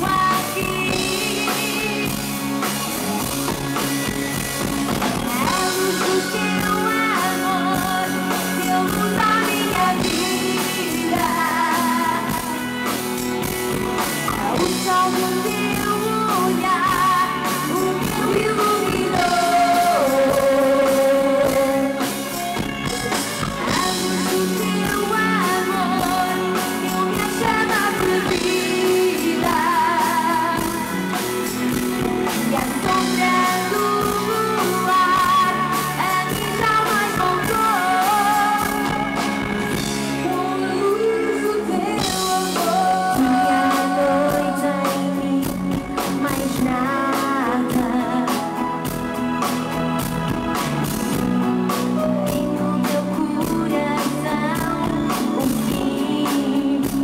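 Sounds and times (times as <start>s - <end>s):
live band playing: 0.0s - 57.0s
woman singing with vibrato: 0.0s - 57.0s.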